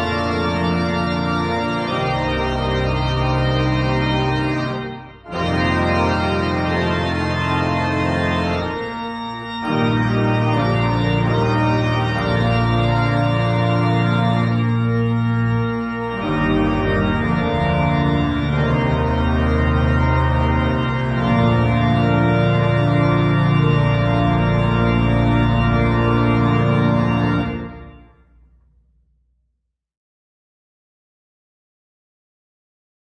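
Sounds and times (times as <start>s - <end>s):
chamber organ playing hymn: 0.0s - 28.3s.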